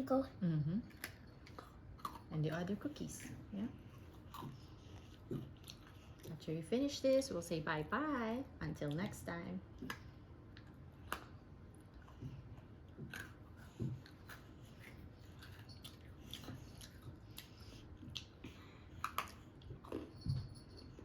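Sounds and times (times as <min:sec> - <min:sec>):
chewing crunchy cookie: 0:00.8 - 0:06.6, 0:08.8 - 0:21.0.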